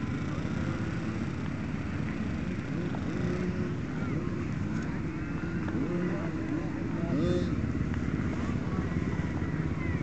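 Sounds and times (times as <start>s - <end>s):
motocross bikes idling and revving: 0.0s - 10.0s.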